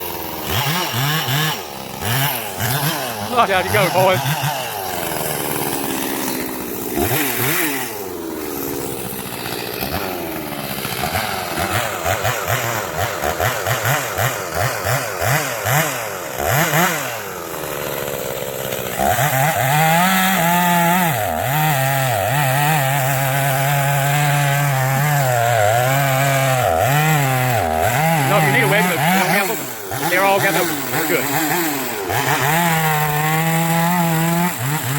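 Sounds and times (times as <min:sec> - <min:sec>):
chainsaw revving and cutting wood: 0:00.0 - 0:34.9.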